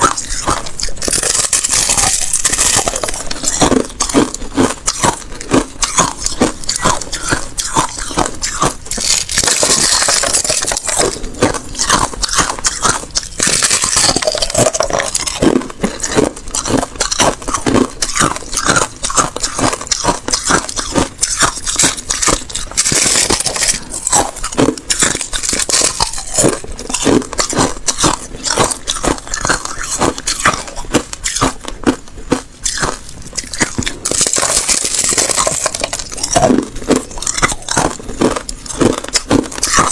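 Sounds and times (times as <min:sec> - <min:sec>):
ice being crunched: 0:00.0 - 0:39.9.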